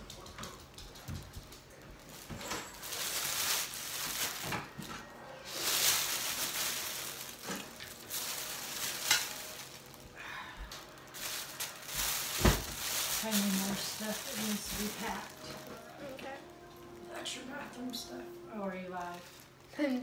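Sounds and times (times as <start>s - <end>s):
cloth and bags rustling: 1.8s - 20.0s.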